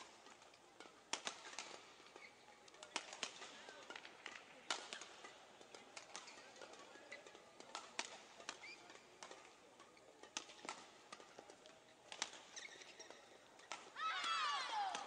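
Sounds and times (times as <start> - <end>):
shoes squeaking on court floor: 0.0 - 14.0
racket striking shuttlecock: 0.0 - 15.0.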